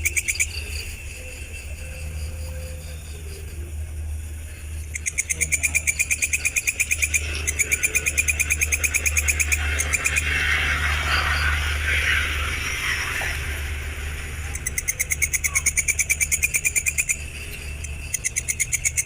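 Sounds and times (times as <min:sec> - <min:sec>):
insect pulsing trill: 0:00.0 - 0:19.0
low hum: 0:00.0 - 0:19.0
soft hissing buzz: 0:00.0 - 0:19.0.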